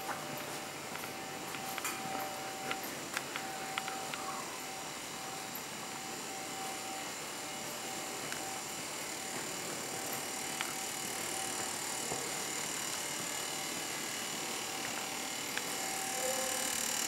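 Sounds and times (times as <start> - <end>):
train humming and hissing: 0.0 - 17.0.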